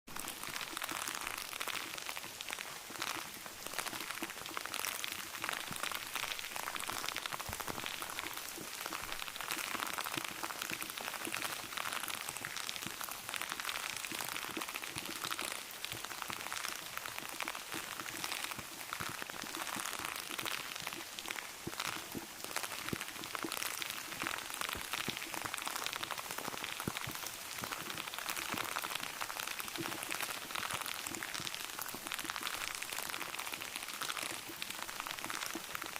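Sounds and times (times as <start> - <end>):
rain pattering: 0.1 - 35.9.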